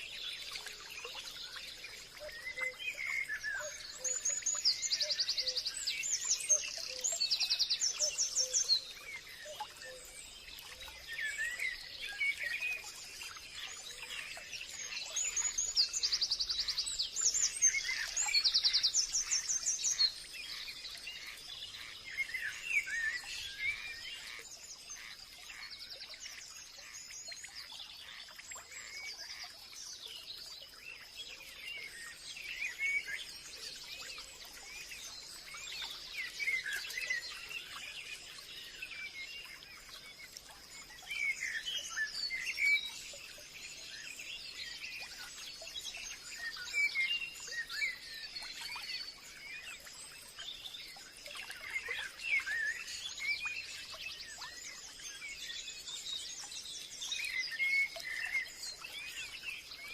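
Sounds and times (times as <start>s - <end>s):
birds singing and calling: 0.0s - 59.9s.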